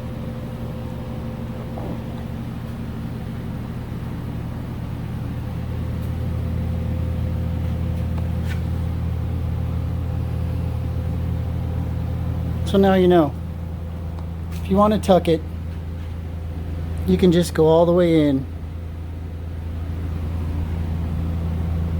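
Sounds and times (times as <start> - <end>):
low mechanical hum: 0.0 - 21.9.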